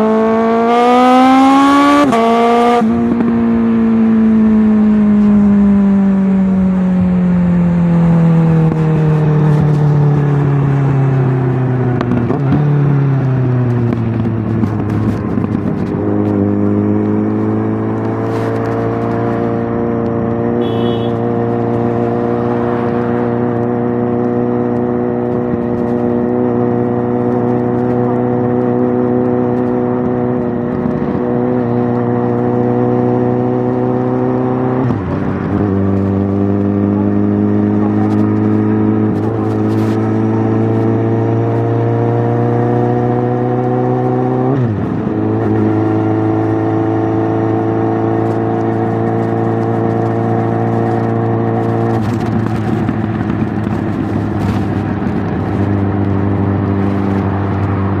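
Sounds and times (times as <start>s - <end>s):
motorcycle engine running: 1.3s - 58.0s.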